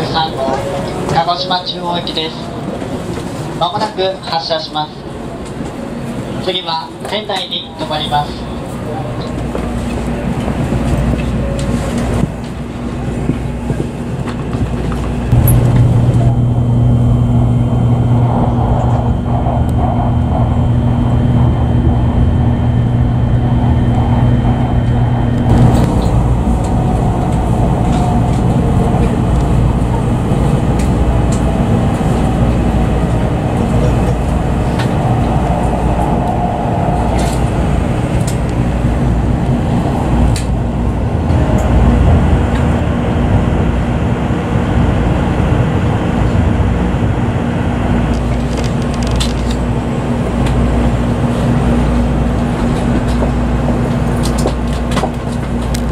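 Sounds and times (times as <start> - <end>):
constant low hum: 0.0 - 55.9
train rushing and rumbling: 0.0 - 55.9.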